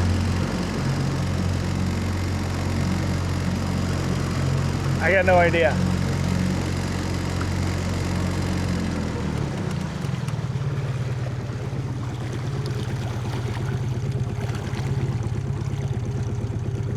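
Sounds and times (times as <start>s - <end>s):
outboard motor running: 0.0s - 16.9s.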